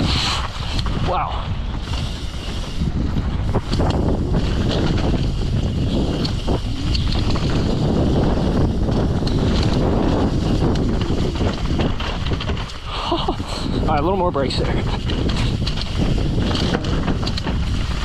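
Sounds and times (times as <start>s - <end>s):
bike clicks and rattles: 0.0s - 18.0s
bike tyres on dirt: 0.0s - 18.0s
wind buffeting microphone: 0.0s - 18.0s.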